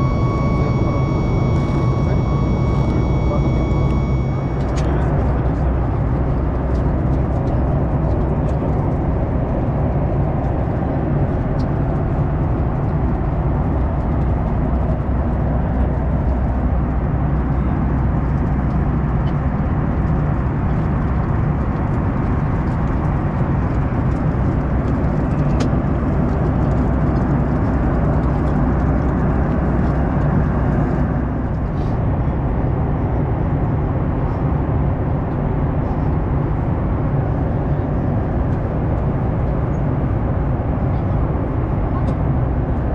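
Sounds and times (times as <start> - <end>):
airplane cabin noise: 0.0 - 42.9.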